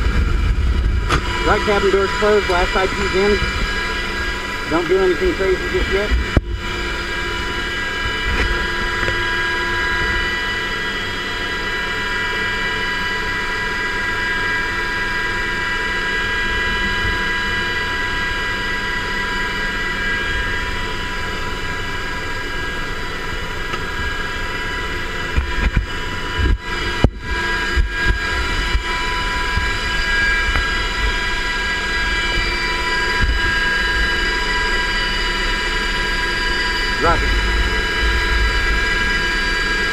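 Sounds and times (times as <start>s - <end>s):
helicopter engine and rotor roar: 0.0s - 39.9s
high whines: 0.0s - 39.9s.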